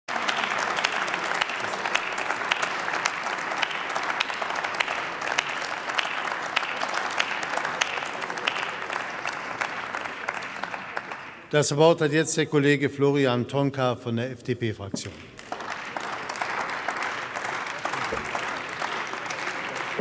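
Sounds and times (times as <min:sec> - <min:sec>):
audience applause: 0:00.1 - 0:11.5, 0:15.1 - 0:20.0.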